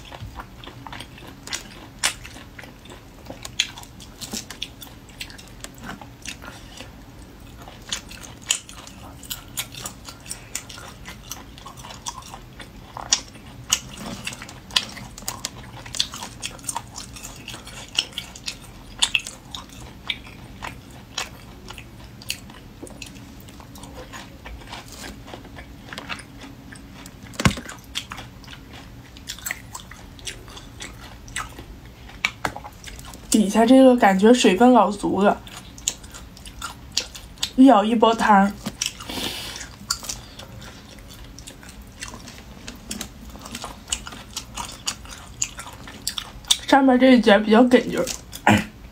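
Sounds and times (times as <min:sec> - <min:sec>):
chewing and wet mouth sounds: 0:00.0 - 0:48.9.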